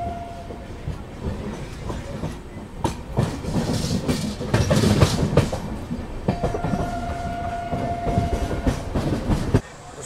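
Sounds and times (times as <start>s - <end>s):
train wheels clicking over rail joints: 0.0s - 9.7s
low train rumble: 0.0s - 10.0s.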